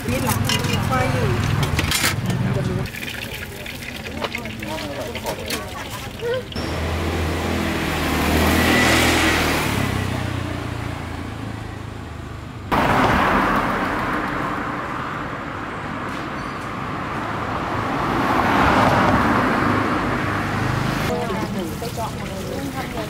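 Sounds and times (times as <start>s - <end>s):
vehicles passing: 0.0s - 23.0s.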